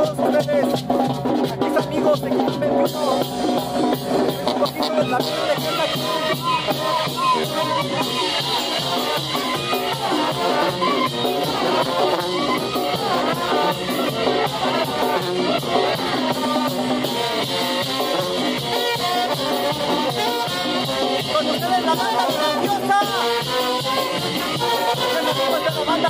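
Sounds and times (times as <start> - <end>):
bass drum beat: 0.0 - 26.0
brass band playing: 0.0 - 26.0.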